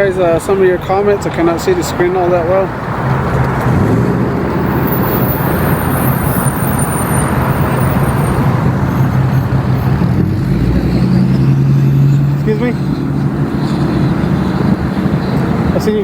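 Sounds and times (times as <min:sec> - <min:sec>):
tyres rushing on road: 0:00.0 - 0:16.0
vehicle engine hum: 0:00.0 - 0:16.0.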